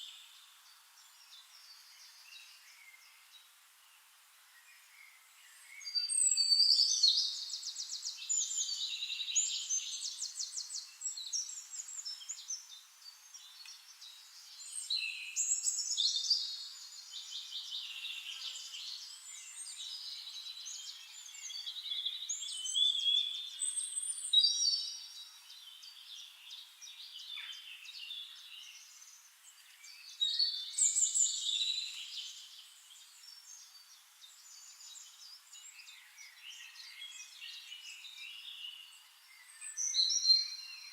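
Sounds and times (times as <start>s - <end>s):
birds singing trilling song: 0.0s - 40.9s.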